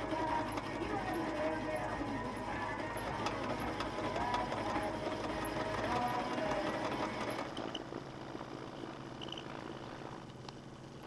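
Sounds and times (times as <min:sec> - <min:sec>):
metal lathe whirring: 0:00.0 - 0:11.0.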